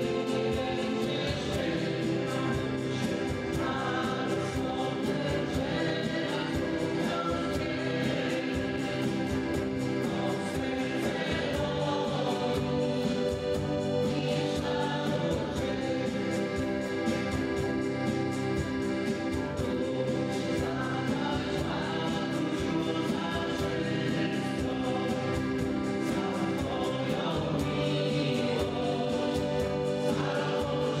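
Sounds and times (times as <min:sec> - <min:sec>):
live band with guitars and keyboard: 0:00.0 - 0:31.0
voices singing together: 0:00.0 - 0:31.0.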